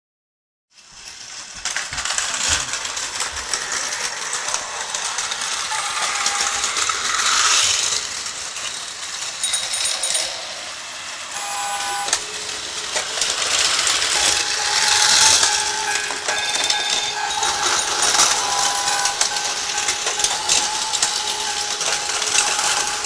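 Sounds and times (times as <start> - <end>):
toy trains rattling on plastic track: 0.7 - 23.0.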